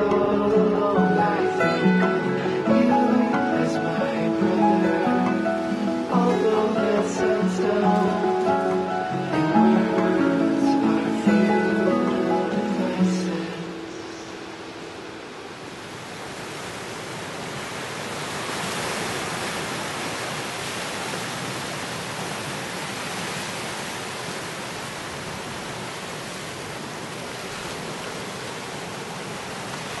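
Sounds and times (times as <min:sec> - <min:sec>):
waves breaking: 0:00.0 - 0:30.0.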